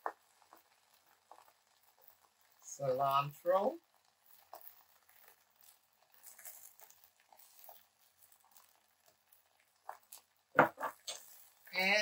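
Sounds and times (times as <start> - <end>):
soft rustles and light ticks: 0.0 - 2.8, 3.8 - 11.8.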